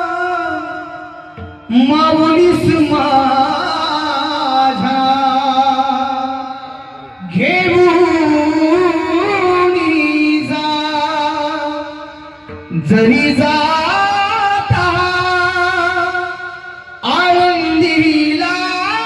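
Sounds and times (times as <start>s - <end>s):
instrumental accompaniment: 0.0s - 19.0s
person singing wordless phrases: 0.0s - 19.0s.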